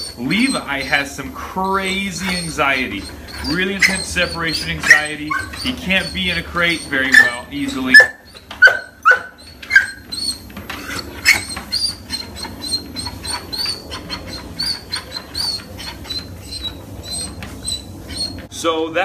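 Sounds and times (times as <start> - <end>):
dog whining: 0.0 - 18.5
treadmill humming: 0.0 - 19.0.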